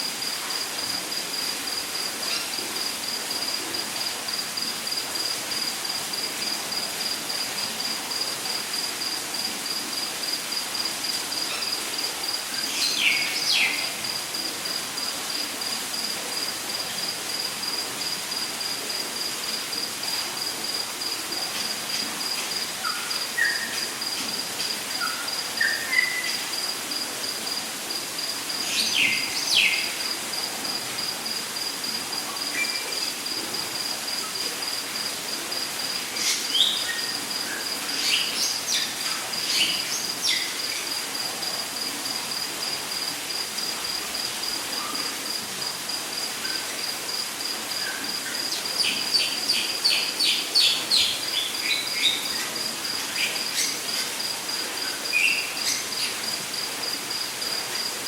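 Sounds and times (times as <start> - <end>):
steady background hiss: 0.0 - 58.0
insect chirping in pulses: 0.2 - 57.9.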